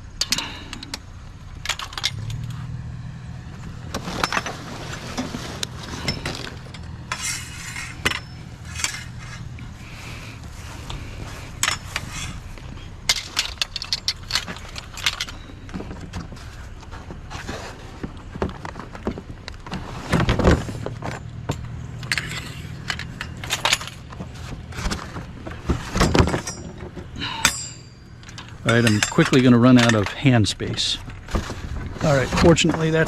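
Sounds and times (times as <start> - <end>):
metal scrap clinking and clanking: 0.0 - 2.6, 3.5 - 33.0
steady low hum: 0.0 - 33.0.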